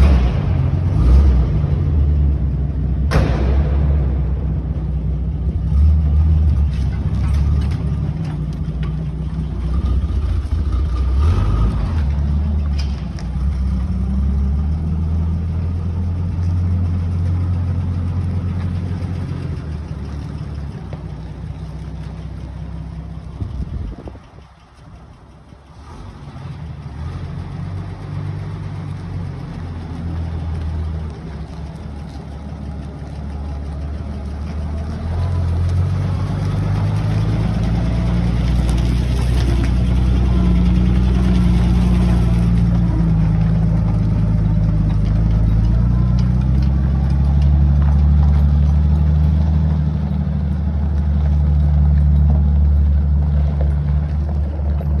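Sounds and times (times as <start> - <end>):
truck engine driving past: 0.0 - 55.0.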